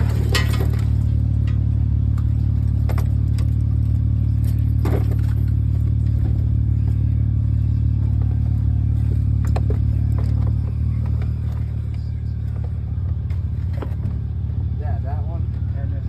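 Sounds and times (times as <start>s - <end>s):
knocks and rattles: 0.0s - 14.7s
road noise: 0.0s - 16.0s
vehicle engine drone: 0.0s - 16.0s.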